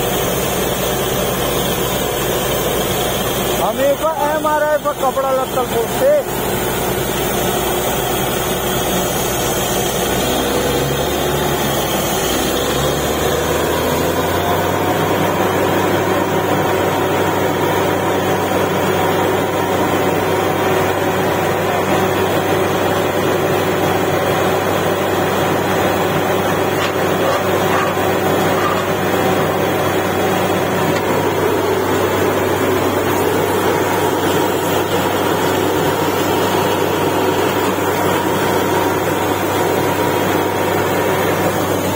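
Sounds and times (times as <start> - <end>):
drilling rig engine drone: 0.0 - 41.9.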